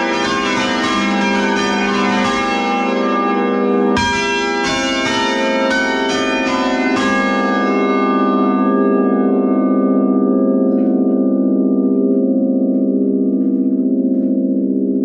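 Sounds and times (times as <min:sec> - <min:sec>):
church bells ringing: 0:00.0 - 0:15.0
deep humming bell resonance: 0:00.0 - 0:15.0.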